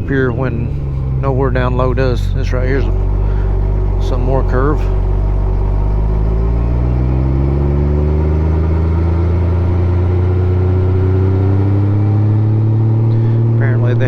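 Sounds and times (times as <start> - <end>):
motorcycle engine revving uphill: 0.0 - 14.0.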